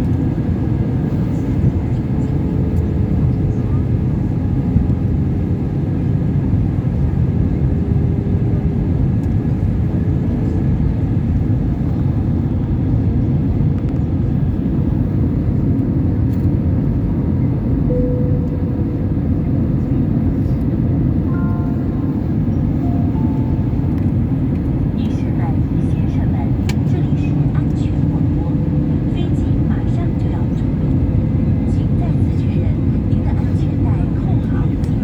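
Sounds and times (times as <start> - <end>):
airliner cabin engine rush: 0.0 - 35.0.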